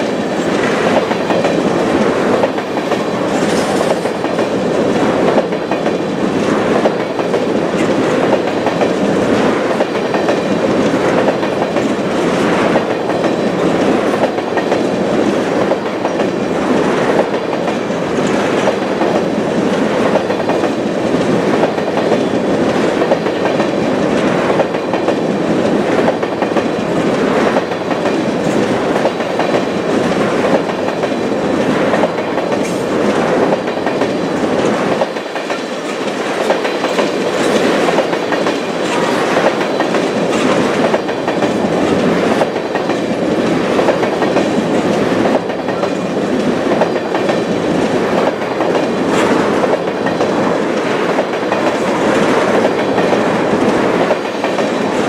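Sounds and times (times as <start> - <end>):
freight train rumbling and rattling: 0.0 - 55.0
wheels clicking over rail joints: 0.0 - 55.0.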